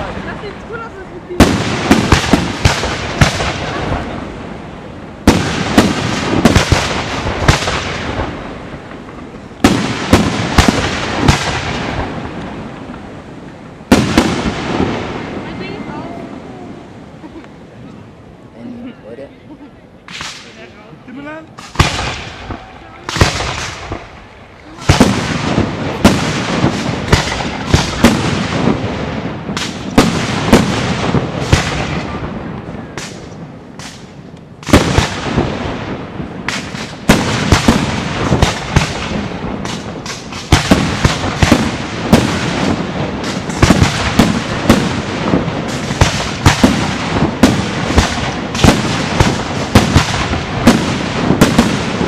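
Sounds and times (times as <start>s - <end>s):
fireworks crackling: 0.0s - 52.0s.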